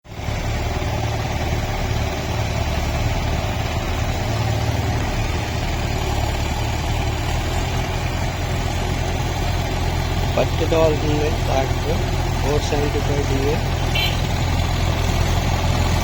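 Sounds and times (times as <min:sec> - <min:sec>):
tractor diesel engine drone: 0:00.0 - 0:16.0.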